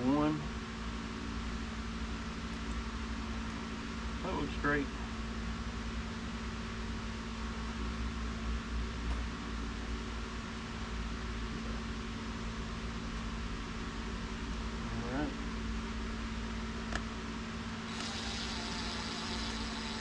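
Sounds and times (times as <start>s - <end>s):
background hum and hiss: 0.0s - 20.0s.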